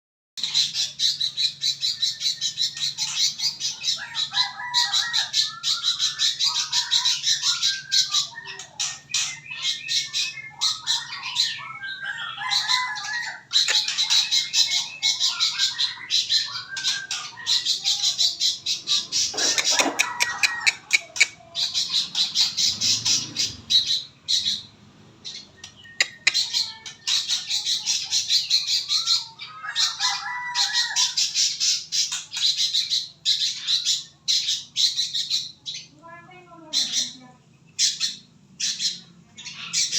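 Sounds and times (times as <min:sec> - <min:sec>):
songbird singing: 0:00.4 - 0:39.9.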